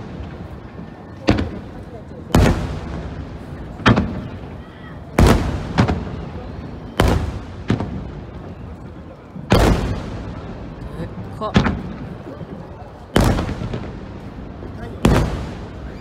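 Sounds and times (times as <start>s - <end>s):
firework booms with rolling echo: 0.0s - 16.0s.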